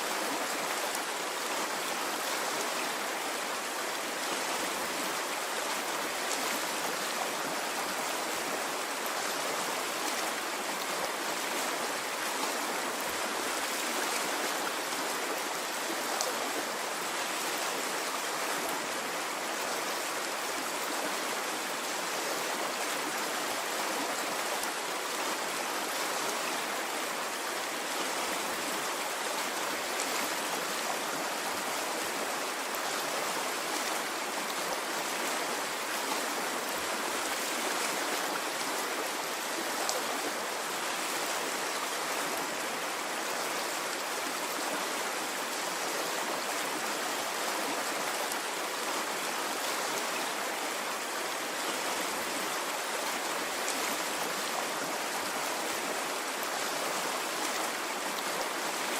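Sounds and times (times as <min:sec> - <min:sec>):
running water stream: 0:00.0 - 0:58.9.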